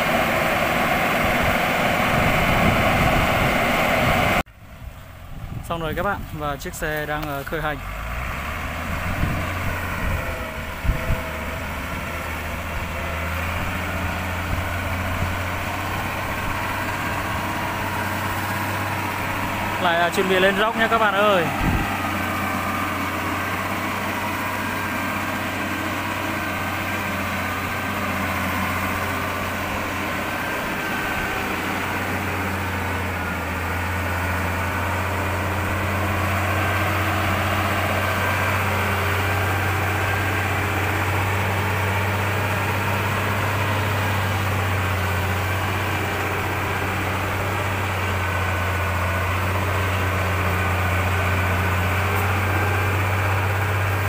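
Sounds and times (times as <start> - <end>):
truck engine under load: 0.0 - 54.0.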